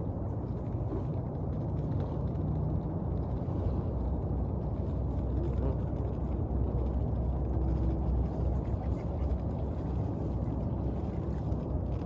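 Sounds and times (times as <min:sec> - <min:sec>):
low rumble of waves: 0:00.0 - 0:12.0.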